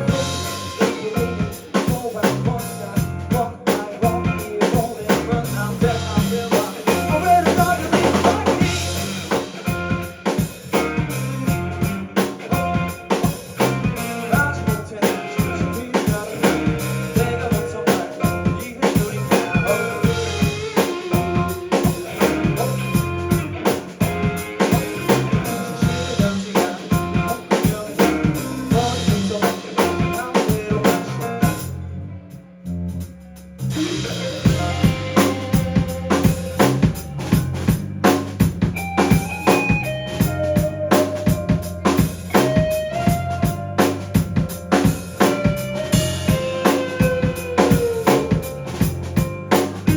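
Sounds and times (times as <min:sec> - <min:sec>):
drum kit beat: 0:00.0 - 0:31.8, 0:33.0 - 0:49.9
indie band playing live: 0:00.0 - 0:49.9.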